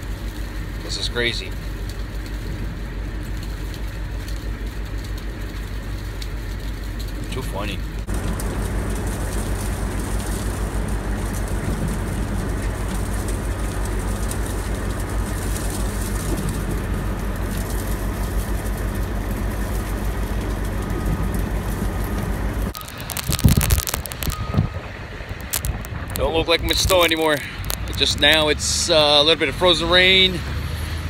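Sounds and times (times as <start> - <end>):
vehicle engine and tyre rumble: 0.0 - 31.0.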